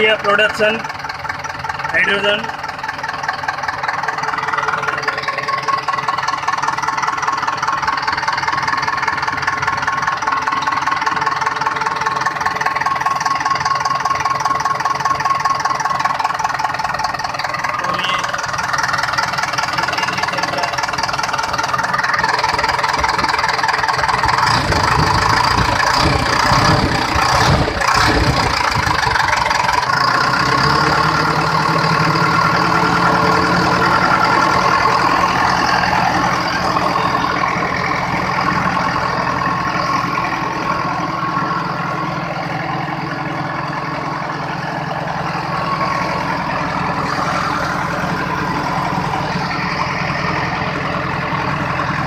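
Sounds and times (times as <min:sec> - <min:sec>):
diesel engine clattering: 0:00.0 - 0:52.0.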